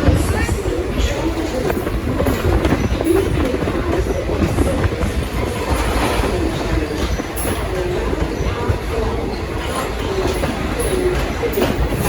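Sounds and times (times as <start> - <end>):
train rolling past: 0.0 - 12.0
wheels clattering on rails: 0.0 - 12.0.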